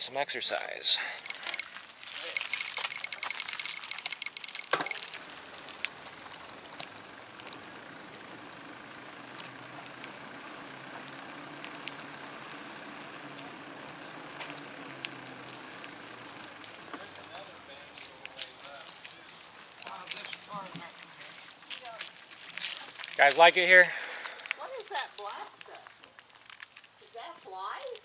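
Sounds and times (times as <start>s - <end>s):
bicycle rolling on trail: 0.0s - 28.0s
bicycle freewheel ticking: 1.0s - 28.0s.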